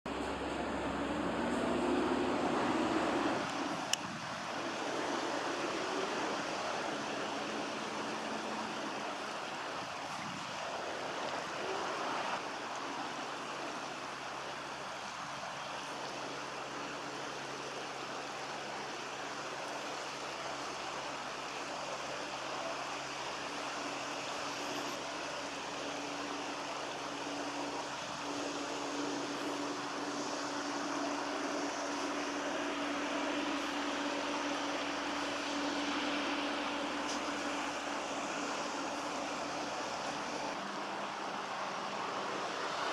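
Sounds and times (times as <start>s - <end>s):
river water running over stones: 0.1s - 42.9s.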